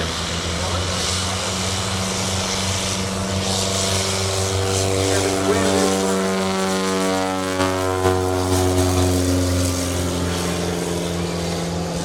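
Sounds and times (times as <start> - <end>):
propeller aircraft flying past: 0.0 - 12.0
steady low hum: 0.0 - 12.0.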